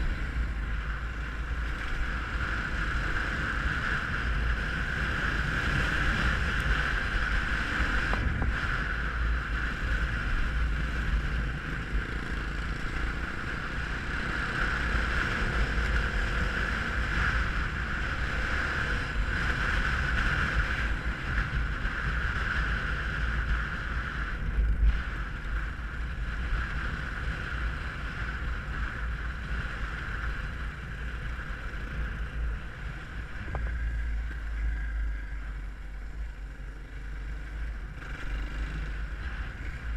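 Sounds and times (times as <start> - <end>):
dirt bike engine running: 0.0 - 39.9
wind noise on microphone: 0.0 - 39.9.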